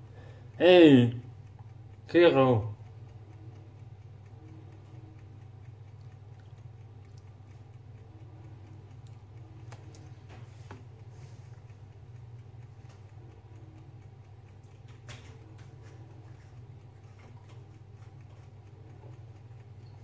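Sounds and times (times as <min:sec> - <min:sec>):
light ticking and clicking: 0:00.0 - 0:20.0
steady low hum: 0:00.0 - 0:20.0.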